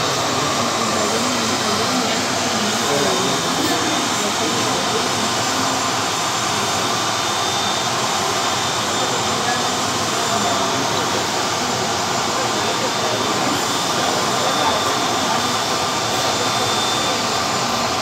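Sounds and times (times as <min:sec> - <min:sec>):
turbine engine running: 0:00.0 - 0:18.0.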